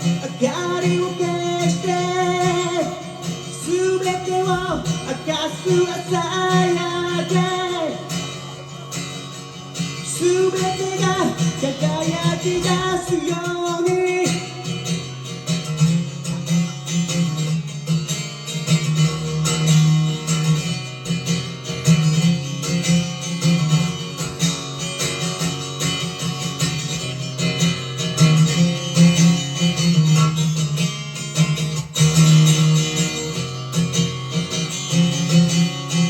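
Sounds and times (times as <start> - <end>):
acoustic guitar playing: 0.0 - 36.0.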